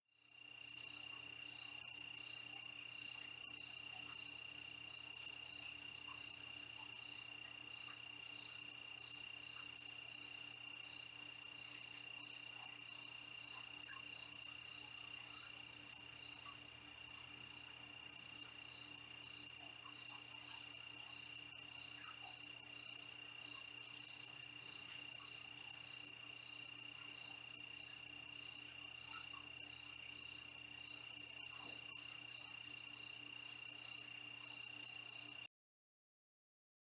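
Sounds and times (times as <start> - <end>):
crickets chirping: 0.1 - 35.5
high insect trill: 0.1 - 35.5.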